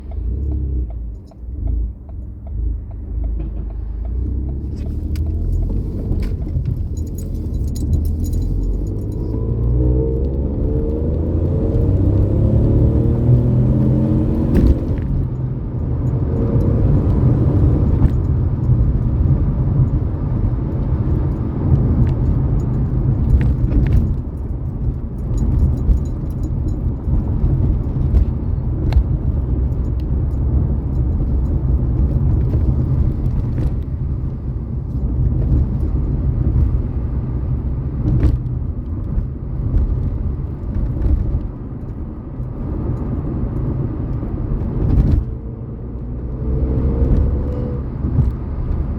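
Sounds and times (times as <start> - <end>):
car engine low rumble: 0.0 - 48.9.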